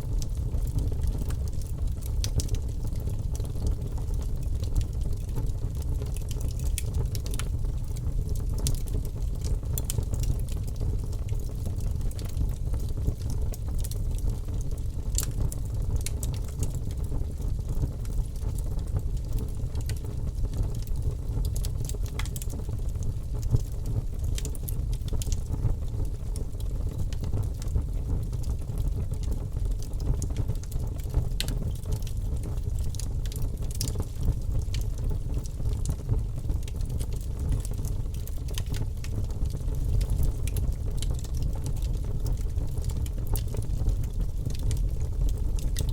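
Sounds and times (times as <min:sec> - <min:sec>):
low rumble of flames: 0:00.0 - 0:45.9
logs crackling and popping in fire: 0:00.1 - 0:45.9.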